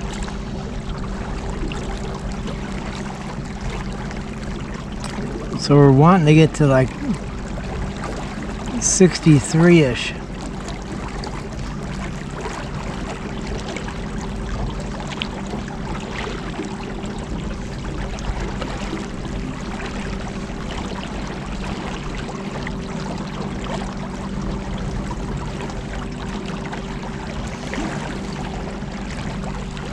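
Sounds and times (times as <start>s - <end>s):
boat motor humming: 0.0s - 29.9s
water rushing past hull: 0.0s - 29.9s.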